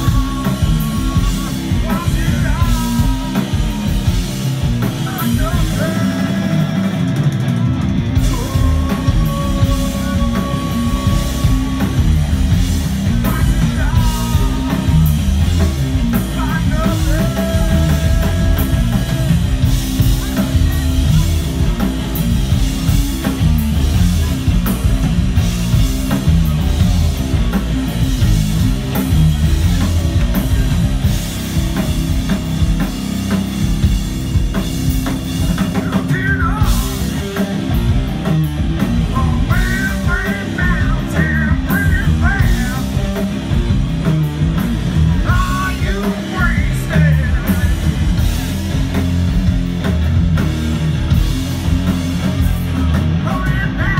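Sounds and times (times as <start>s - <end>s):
bass guitar: 0.0s - 53.9s
distorted electric guitars: 0.0s - 53.9s
drum kit with cymbal hits: 0.0s - 53.9s.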